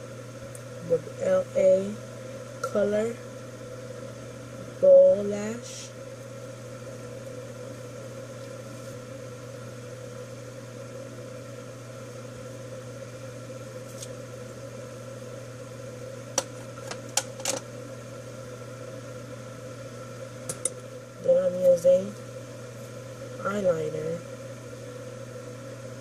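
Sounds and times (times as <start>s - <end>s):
room hum: 0.0s - 26.0s.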